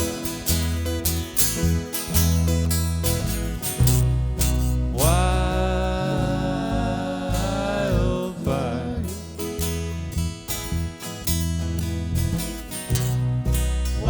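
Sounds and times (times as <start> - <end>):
acoustic folk band playing: 0.0 - 14.0
acoustic guitars strummed: 0.0 - 14.0.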